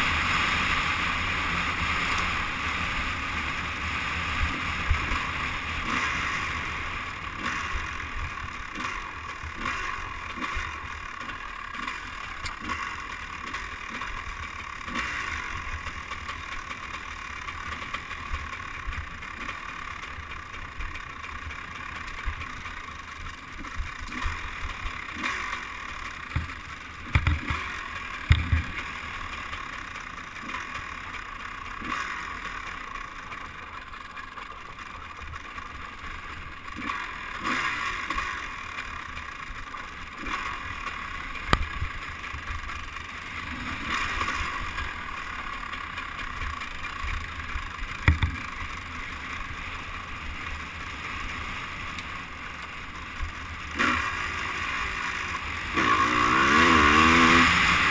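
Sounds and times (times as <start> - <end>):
two-stroke dirt bike engine: 0.0 - 57.9.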